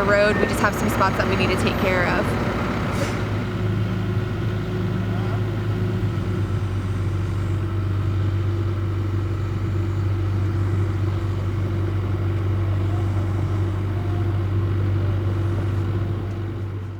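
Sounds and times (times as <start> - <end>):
backhoe diesel engine running: 0.0 - 16.9.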